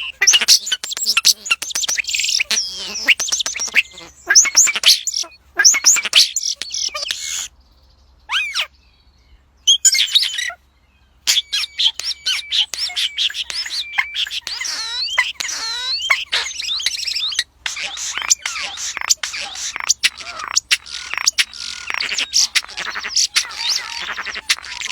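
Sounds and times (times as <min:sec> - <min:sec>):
bird chirping and whistling: 0:00.0 - 0:07.5, 0:08.3 - 0:08.7, 0:09.7 - 0:10.6, 0:11.3 - 0:24.9.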